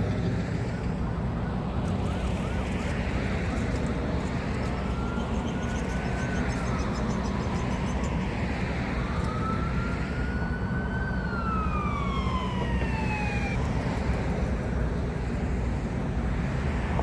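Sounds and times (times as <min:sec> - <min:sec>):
emergency vehicle siren wailing: 0:00.0 - 0:17.0
low rumble of street traffic: 0:00.0 - 0:17.0.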